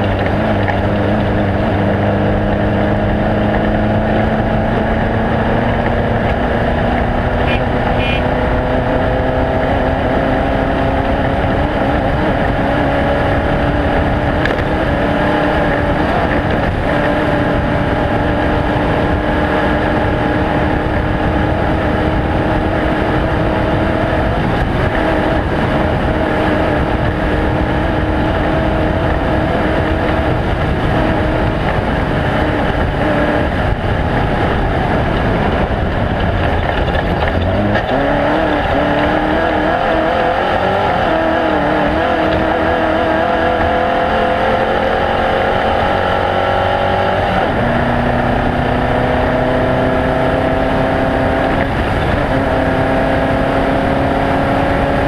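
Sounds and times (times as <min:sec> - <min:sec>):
loud rumble: 0:00.0 - 0:55.0
vehicle engine running hard: 0:00.0 - 0:55.0.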